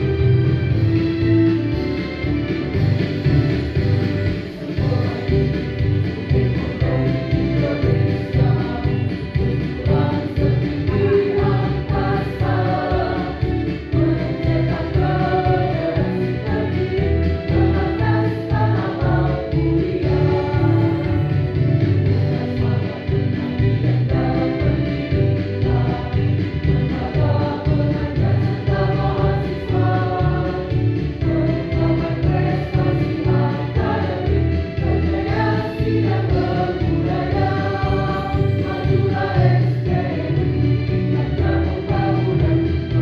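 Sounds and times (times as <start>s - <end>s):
mixed choir singing in harmony: 2.8s - 43.0s.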